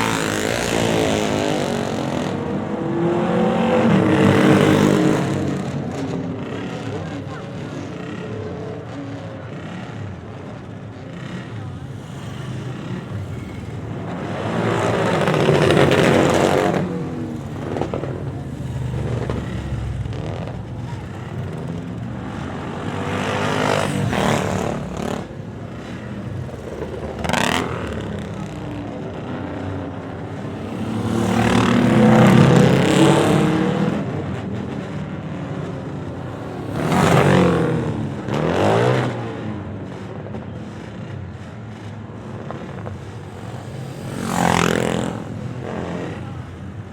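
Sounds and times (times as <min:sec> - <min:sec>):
motorcycles riding past: 0:00.0 - 0:46.9.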